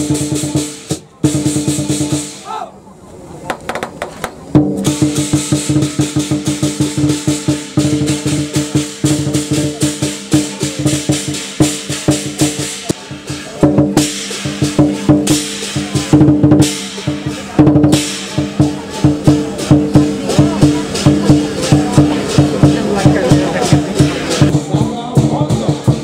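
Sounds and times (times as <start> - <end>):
barrel drum beaten fast: 0.0 - 2.4, 3.5 - 26.0
hand cymbals clashing: 4.8 - 26.0.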